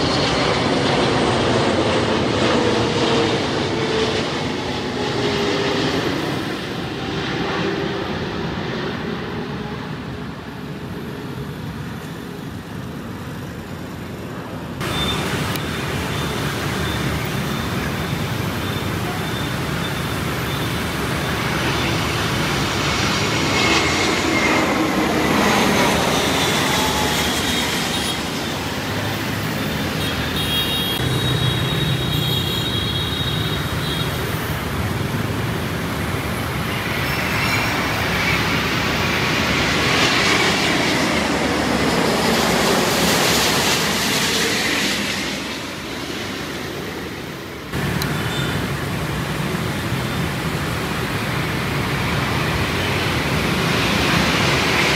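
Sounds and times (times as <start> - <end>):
traffic rumble and hiss: 0.0 - 54.9.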